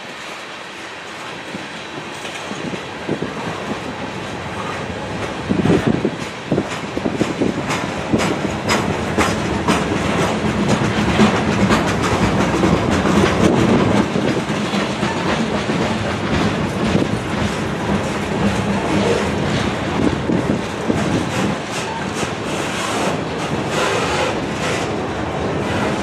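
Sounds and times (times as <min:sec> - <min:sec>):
train wheels rumbling on rail: 0:00.0 - 0:26.0
wheels clacking on track: 0:00.0 - 0:26.0.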